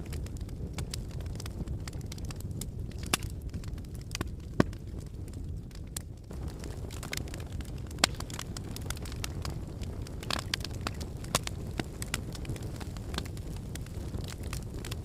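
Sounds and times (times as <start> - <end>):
fire crackles and pops: 0.0 - 15.0
fire rumbling in fireplace: 0.0 - 15.0.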